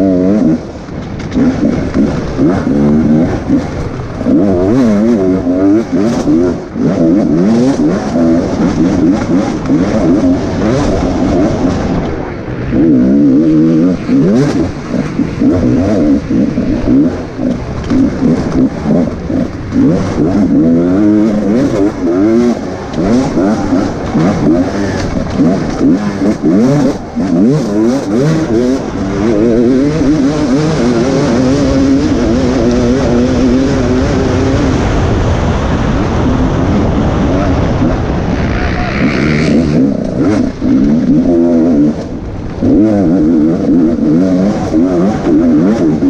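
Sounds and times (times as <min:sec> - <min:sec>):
knocks and clatter over rough ground: 0:00.0 - 0:35.4, 0:37.1 - 0:46.0
race vehicle engine revving: 0:00.0 - 0:46.0.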